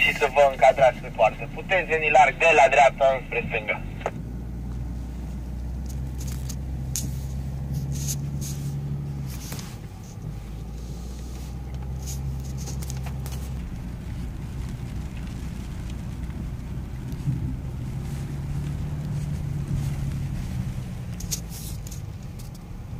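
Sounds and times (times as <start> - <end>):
car engine drone in cabin: 0.0 - 22.9.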